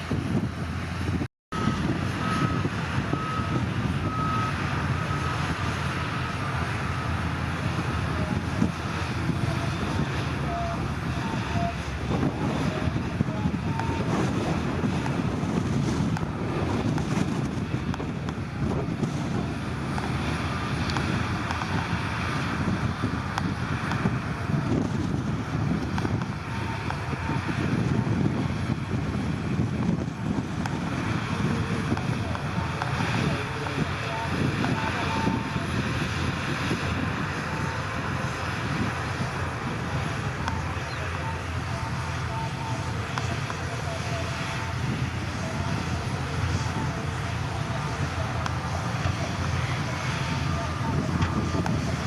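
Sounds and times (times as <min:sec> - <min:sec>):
diesel engine rumbling: 0:00.0 - 0:52.0
wind buffeting microphone: 0:00.0 - 0:52.0.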